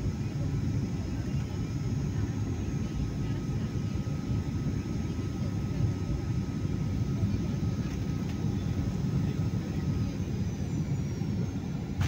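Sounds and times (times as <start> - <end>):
aircraft rolling on runway rumble: 0.0 - 12.0.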